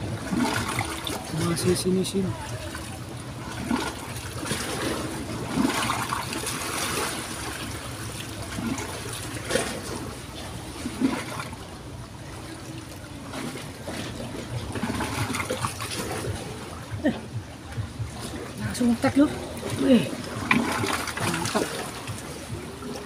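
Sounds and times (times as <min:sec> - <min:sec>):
river water trickling and flowing: 0:00.0 - 0:23.0.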